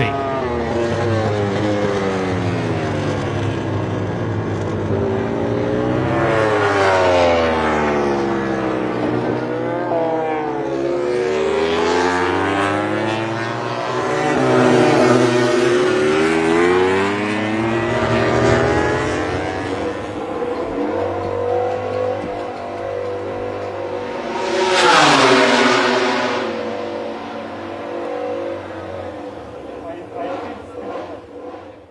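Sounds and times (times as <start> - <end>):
motorcycle passing close: 0.0 - 31.9
racing motorcycle engines: 0.0 - 31.9.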